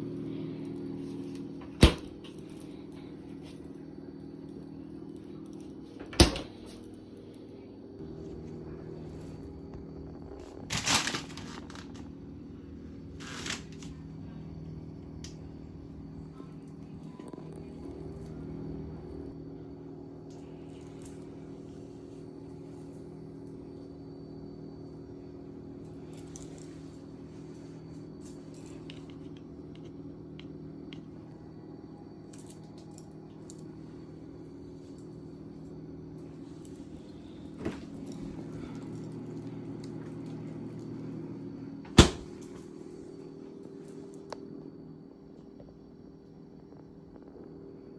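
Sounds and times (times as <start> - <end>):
appliance mechanical hum: 0.0 - 47.9.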